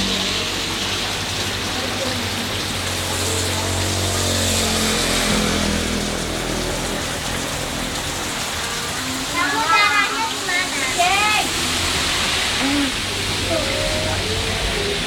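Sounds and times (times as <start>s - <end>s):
heavy rain pouring on roof: 0.0s - 15.0s
motorbike engines humming: 0.0s - 15.0s.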